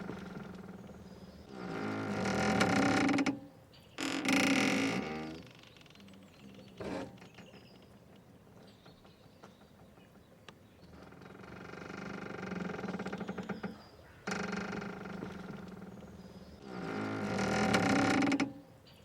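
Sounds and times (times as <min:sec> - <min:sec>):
boat rope creaking: 0:00.0 - 0:10.2, 0:10.9 - 0:18.7.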